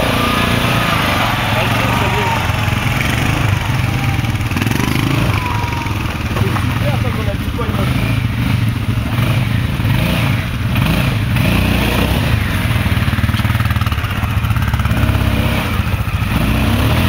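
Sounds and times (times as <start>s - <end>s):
quad bike engines revving: 0.0s - 17.0s.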